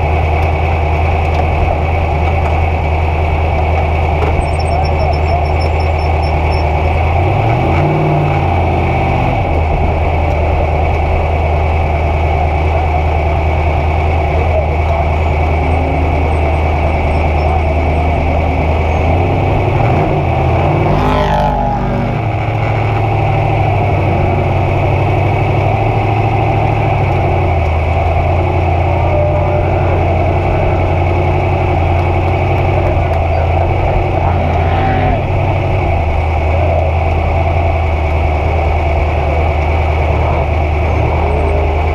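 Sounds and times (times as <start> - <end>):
truck engine idling and revving: 0.0 - 41.9.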